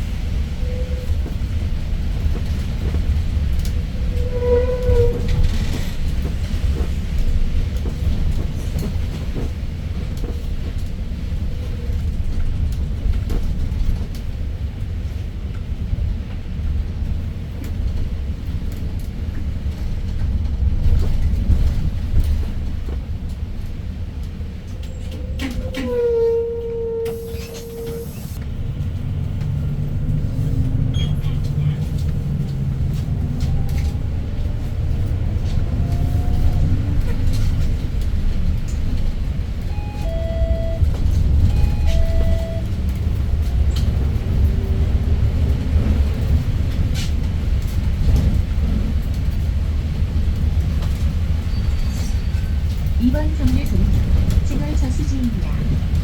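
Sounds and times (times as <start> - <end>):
bus engine rumble: 0.0 - 56.0
road noise: 0.0 - 56.0.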